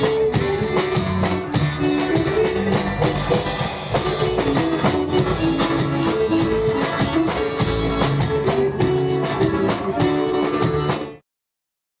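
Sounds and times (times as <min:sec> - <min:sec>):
dance band playing: 0:00.0 - 0:11.2.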